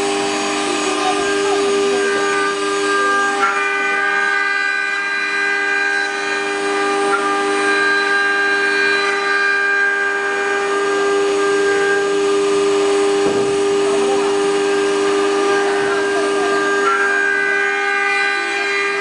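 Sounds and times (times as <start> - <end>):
wood router spindle whine: 0.0 - 19.0.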